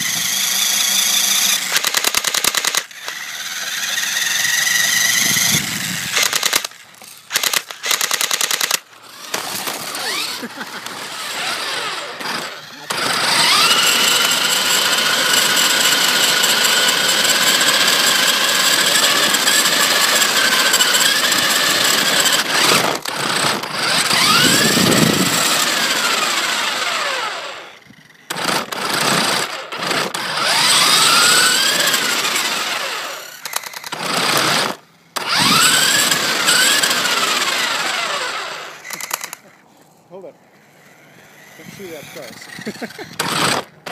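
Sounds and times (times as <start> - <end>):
toy car electric motor whining: 0.0 - 39.6, 40.5 - 43.9.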